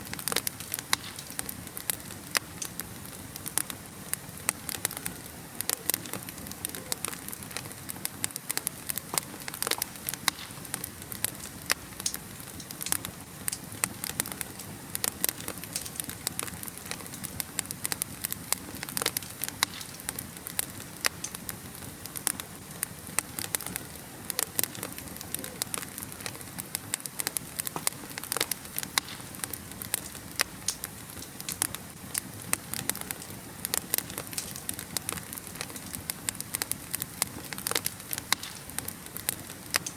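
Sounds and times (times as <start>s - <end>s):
wood fire crackling in fireplace: 0.0s - 39.9s.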